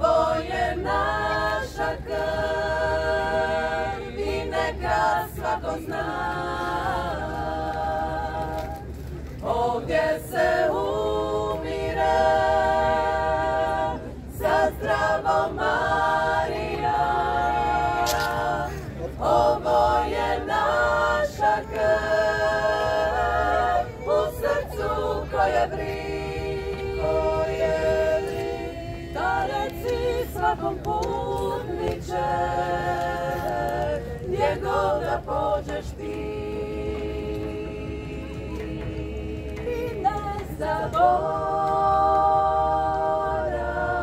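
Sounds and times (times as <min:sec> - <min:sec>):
women singing in close harmony: 0:00.0 - 0:44.0.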